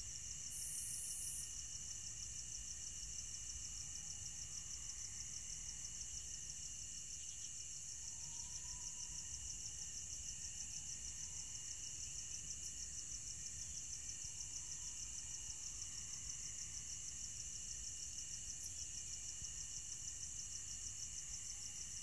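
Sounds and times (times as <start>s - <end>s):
crickets chirping: 0.0s - 22.0s
low insect chirring: 0.0s - 22.0s.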